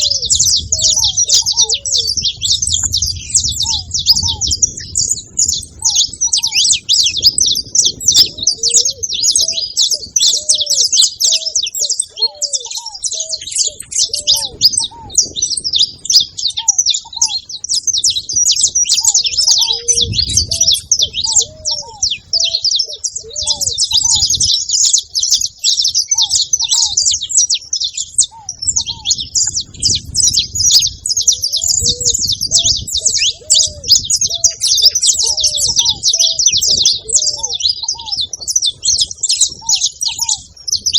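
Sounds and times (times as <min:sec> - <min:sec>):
low cooing: 0:00.0 - 0:17.4, 0:18.8 - 0:24.4, 0:28.2 - 0:40.5
finches chirping and singing: 0:00.0 - 0:40.9.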